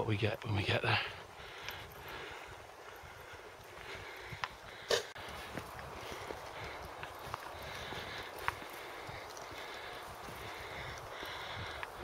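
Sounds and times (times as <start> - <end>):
footsteps on rocky grassy ground: 0.2 - 12.0.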